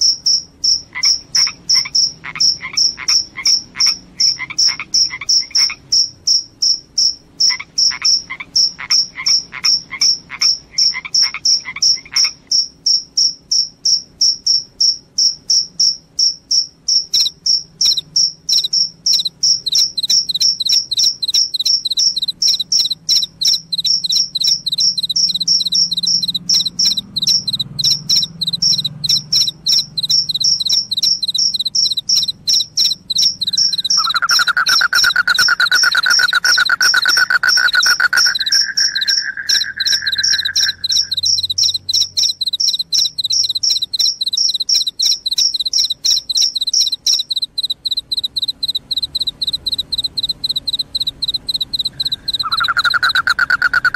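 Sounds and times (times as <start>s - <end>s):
crickets chirping: 0.0s - 53.9s
low continuous trill: 0.0s - 53.9s.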